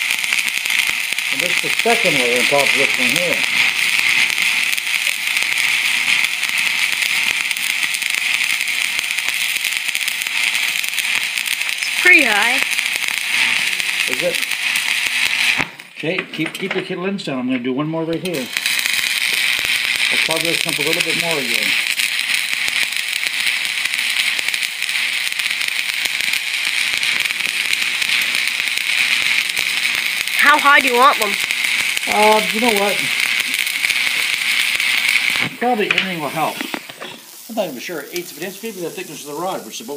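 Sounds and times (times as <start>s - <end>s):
welding arc crackling hiss: 0.0s - 17.0s, 18.1s - 39.9s.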